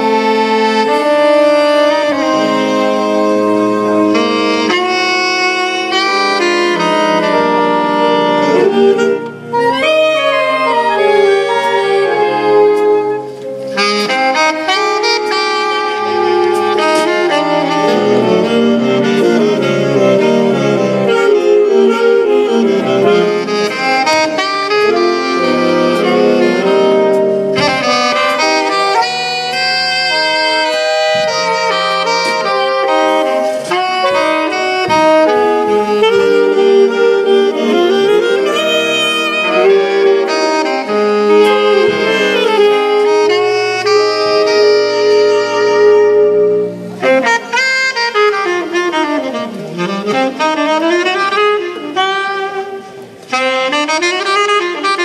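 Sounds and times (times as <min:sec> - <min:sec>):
saxophone orchestra playing: 0:00.0 - 0:55.0.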